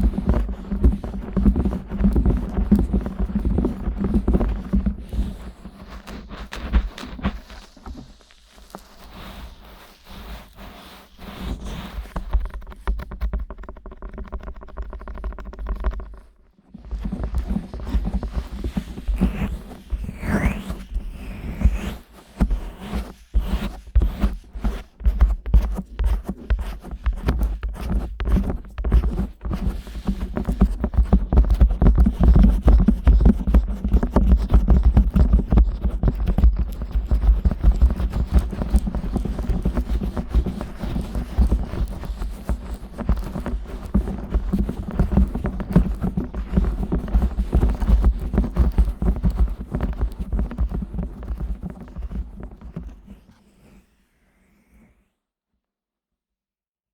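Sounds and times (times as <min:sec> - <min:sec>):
fingers rubbing microphone: 0:00.0 - 0:53.4.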